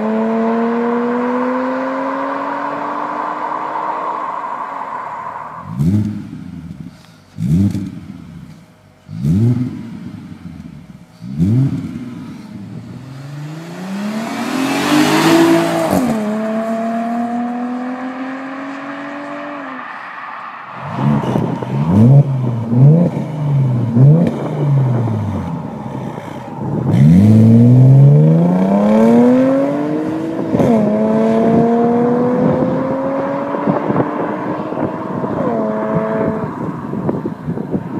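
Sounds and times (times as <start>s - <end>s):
car accelerating through gears: 0.0s - 8.1s, 11.2s - 37.9s
car engine revving: 0.0s - 37.9s.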